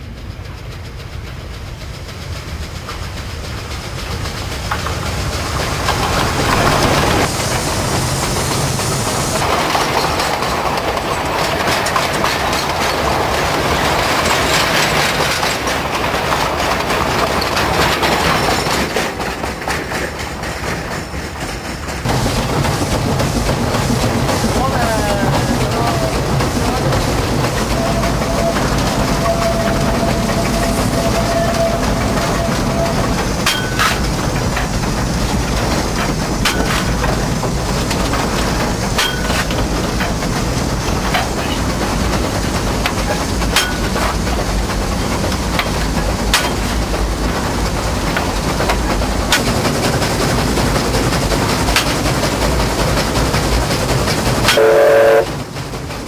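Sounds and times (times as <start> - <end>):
steam locomotive rumble and hiss: 0.0 - 56.0.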